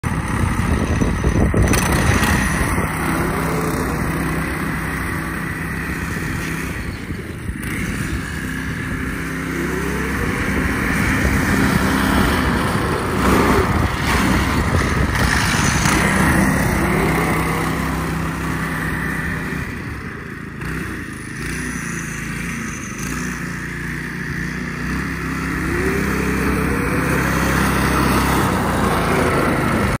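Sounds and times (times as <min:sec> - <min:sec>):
small gas engine revving: 0:00.0 - 0:30.0.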